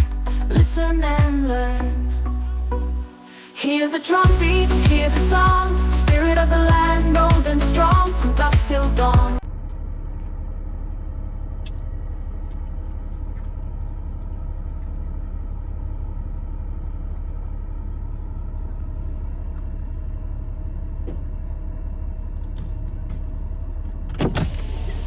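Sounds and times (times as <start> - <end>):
vehicle low rumble: 0.0 - 3.2, 4.2 - 25.0
faint steady hum: 0.0 - 25.0.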